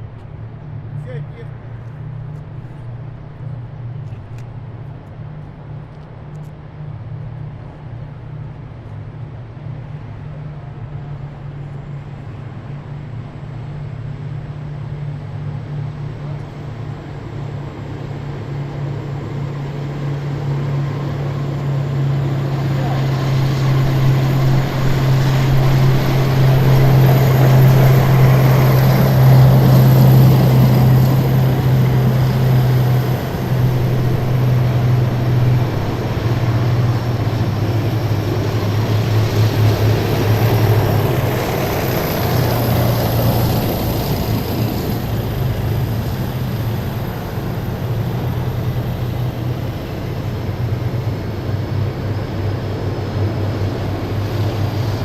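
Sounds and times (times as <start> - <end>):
heavy vehicles engine drone: 0.0 - 55.0.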